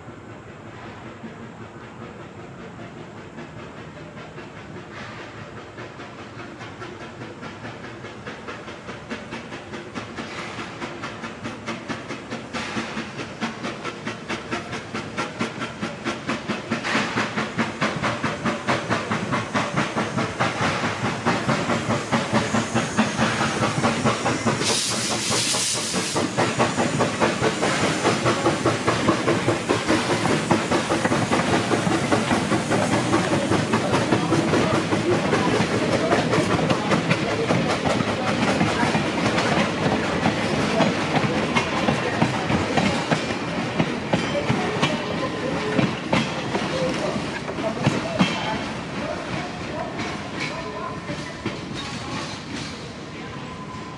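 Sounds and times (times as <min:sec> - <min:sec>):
high steam hiss: 0:00.0 - 0:53.9
steam locomotive beat: 0:00.0 - 0:53.9.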